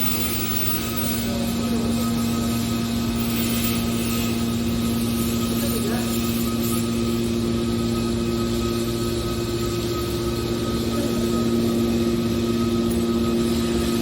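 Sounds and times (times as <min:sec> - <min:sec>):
hydraulic baler motor humming: 0:00.0 - 0:14.0.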